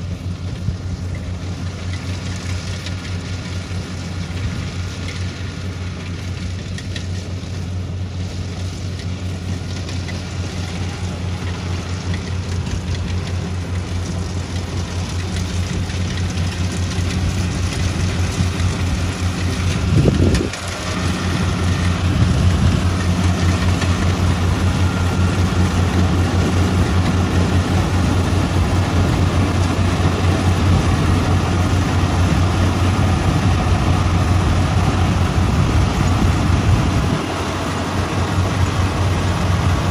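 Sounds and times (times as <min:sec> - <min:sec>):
clatter of harvesting machinery: 0:00.0 - 0:39.9
low engine drone: 0:00.0 - 0:39.9.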